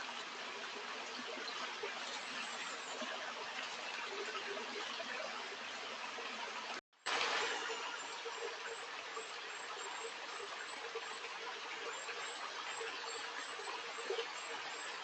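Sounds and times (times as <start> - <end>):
stream flowing water: 0.0 - 15.0.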